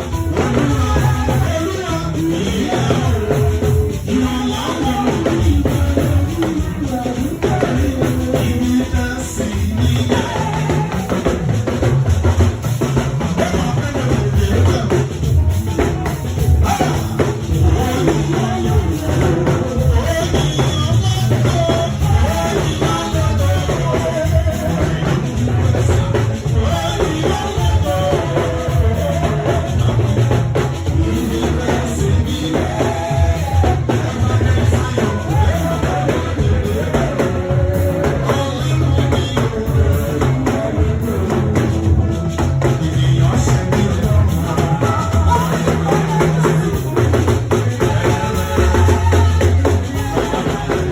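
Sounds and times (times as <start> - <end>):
drum kit and bass beat: 0.0 - 50.9
gospel band music: 0.0 - 50.9
singing: 0.0 - 50.9.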